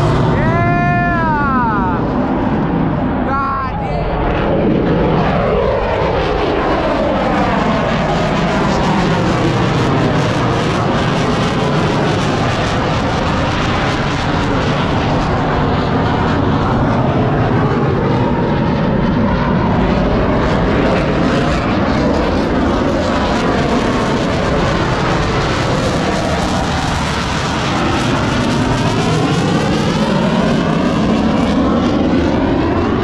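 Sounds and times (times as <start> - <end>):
airplane flying past: 0.0 - 33.0.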